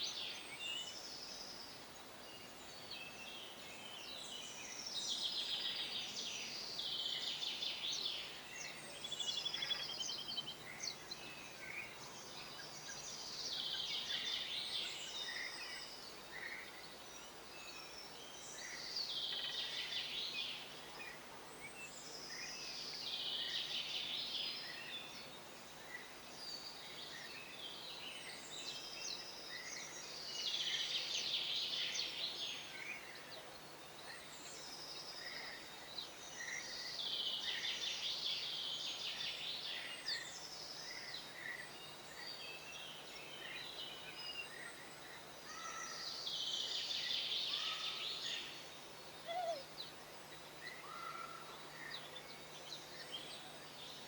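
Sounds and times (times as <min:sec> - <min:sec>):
songbirds singing trills: 0:02.4 - 0:54.0.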